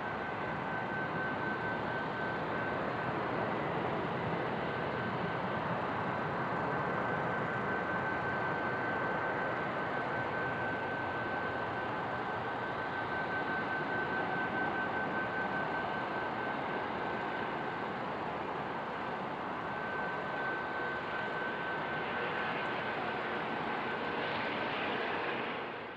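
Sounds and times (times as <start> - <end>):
jet engines roaring with whine: 0.0 - 25.9.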